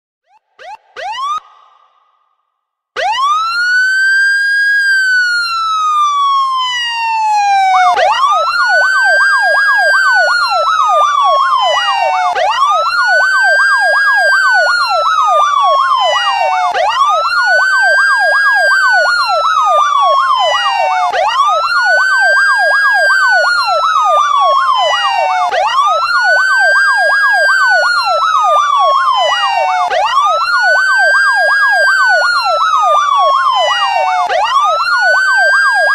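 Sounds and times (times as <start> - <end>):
police siren wailing: 0.3 - 2.1, 3.0 - 35.9
siren yelp: 0.3 - 2.1, 3.0 - 35.9.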